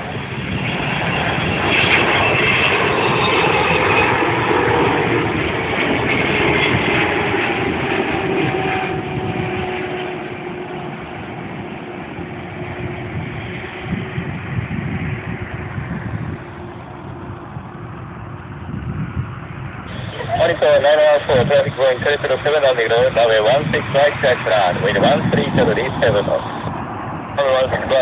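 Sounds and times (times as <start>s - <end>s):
jet engines rumbling and whining: 0.0s - 28.0s.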